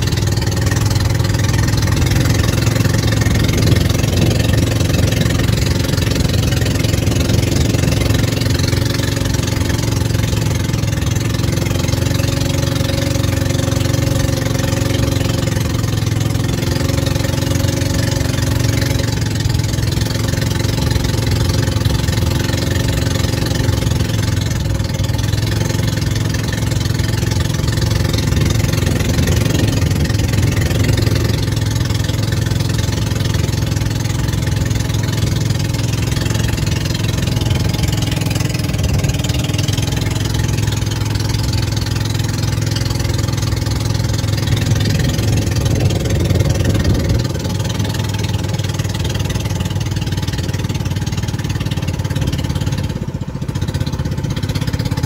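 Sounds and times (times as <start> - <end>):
road and wind noise: 0.0 - 55.0
scooter engine running: 0.0 - 55.0.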